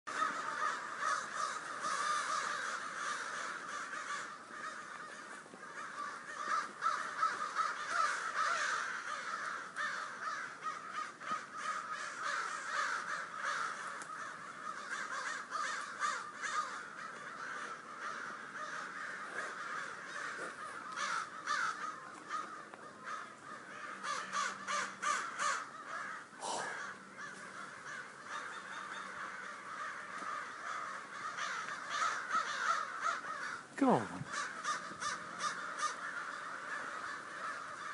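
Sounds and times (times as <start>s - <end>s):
crows cawing: 0.1s - 37.9s.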